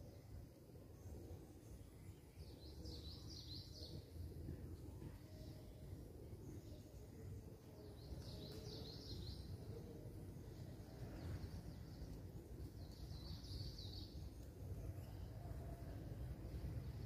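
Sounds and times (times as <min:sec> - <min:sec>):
small bird singing: 0:00.0 - 0:17.0
low steady rumble: 0:00.1 - 0:17.0.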